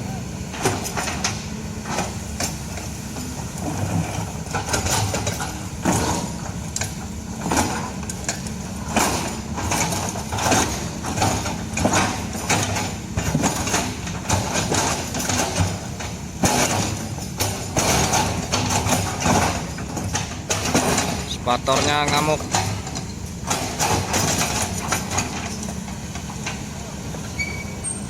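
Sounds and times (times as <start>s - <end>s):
excavator diesel engine running: 0.0s - 28.0s
metal clanks and knocks: 0.5s - 28.0s.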